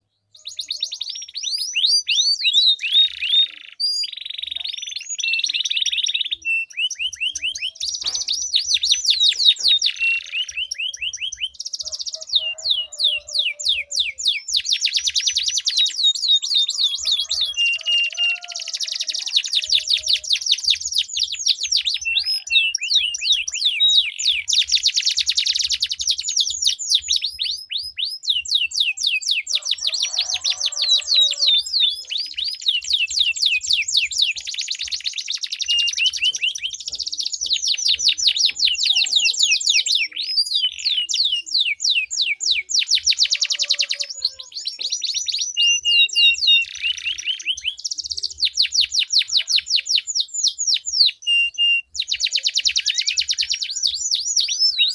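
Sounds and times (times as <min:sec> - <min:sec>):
canary singing rolling trills: 0:00.0 - 0:54.9.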